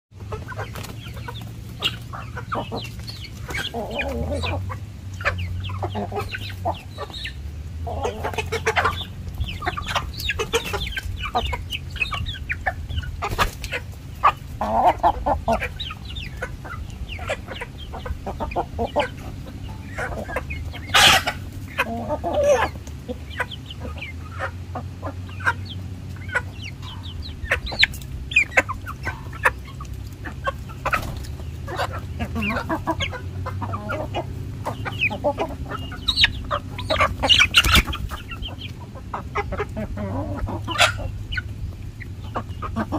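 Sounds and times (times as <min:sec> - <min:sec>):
chickens clucking: 0:00.1 - 0:42.9.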